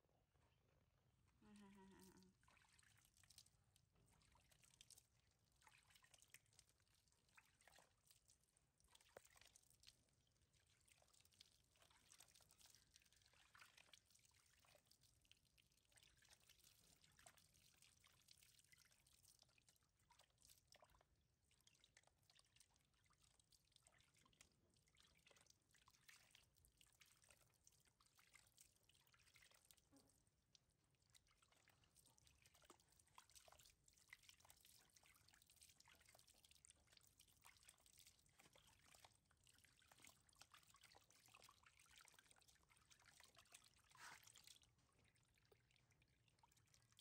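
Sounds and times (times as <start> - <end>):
small water splashes: 1.4 - 47.0
water trickling into basin: 1.4 - 47.0.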